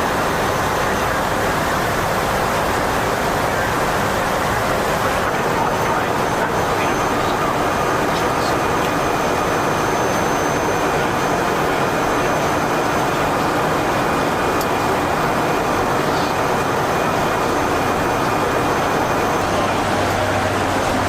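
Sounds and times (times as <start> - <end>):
turboprop engines running: 0.0 - 21.0.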